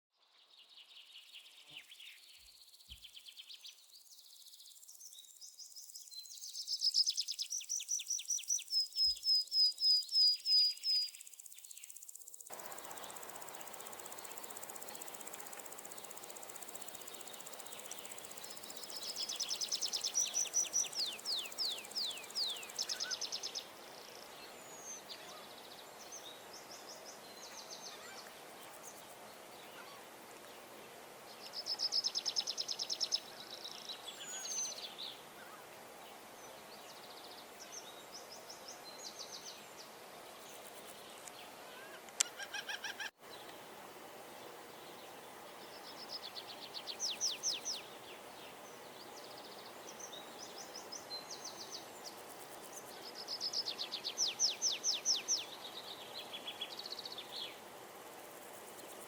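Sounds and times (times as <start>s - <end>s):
birds and insects chirping: 0.2s - 59.0s
steady background hiss: 0.2s - 59.0s.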